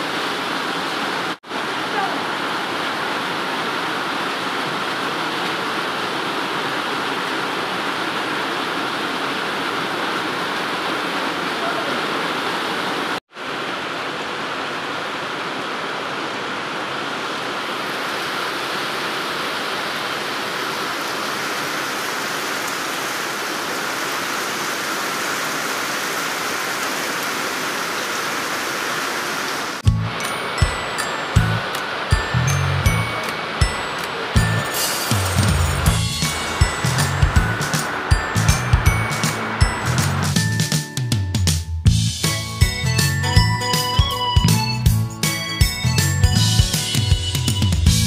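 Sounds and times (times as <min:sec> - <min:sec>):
heavy rain: 0:00.0 - 0:40.8.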